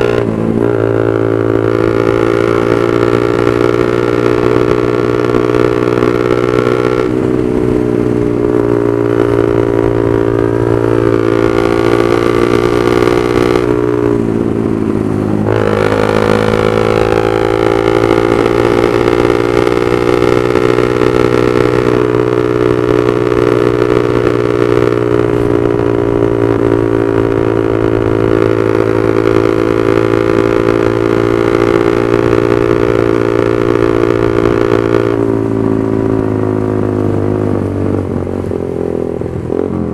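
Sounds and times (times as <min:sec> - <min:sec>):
motorcycle engine exhaust note: 0:00.0 - 0:39.9.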